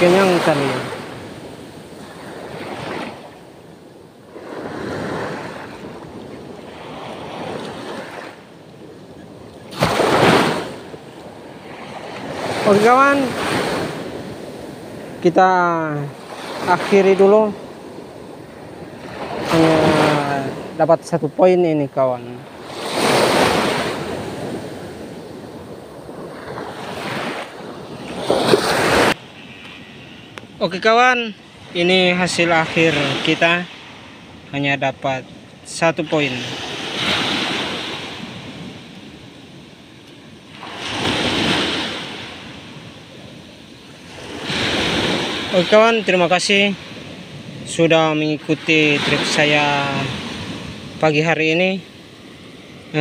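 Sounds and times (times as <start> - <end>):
small waves washing on shore: 0.0 - 53.0.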